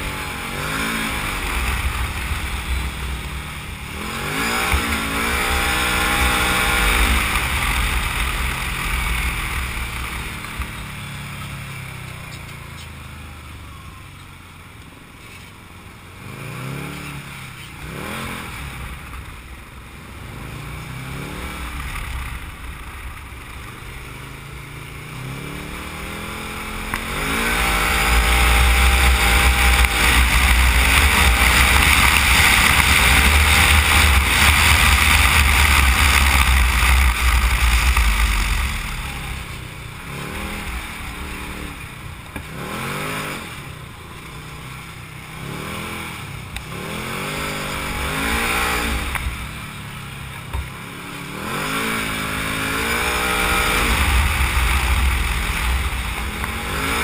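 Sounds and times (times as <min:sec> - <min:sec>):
engine revving: 0:00.0 - 0:11.0, 0:16.2 - 0:19.2, 0:20.1 - 0:57.0.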